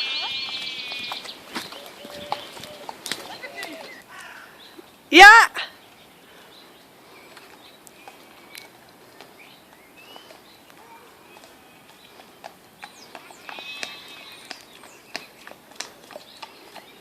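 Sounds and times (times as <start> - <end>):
faint horse hoofbeats: 0.0 - 4.9, 6.8 - 17.0
birds chirping: 0.0 - 17.0.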